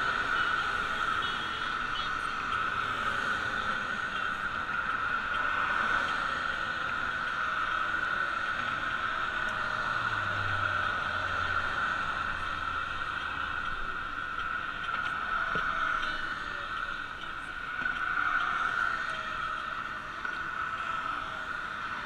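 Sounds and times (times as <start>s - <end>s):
bicycle riding hiss: 0.0s - 22.0s
traffic low rumble: 0.0s - 22.0s.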